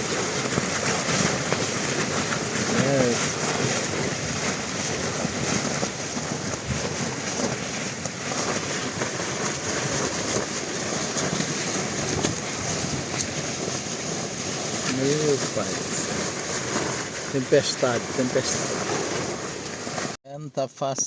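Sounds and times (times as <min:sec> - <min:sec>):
strong wind buffeting microphone: 0:00.0 - 0:20.2.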